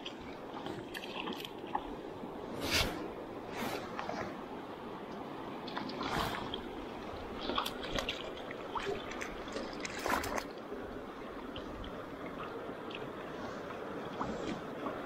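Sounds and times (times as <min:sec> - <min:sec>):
water splashing close by: 0:00.0 - 0:04.4, 0:05.6 - 0:15.0
river water rushing: 0:00.0 - 0:15.0.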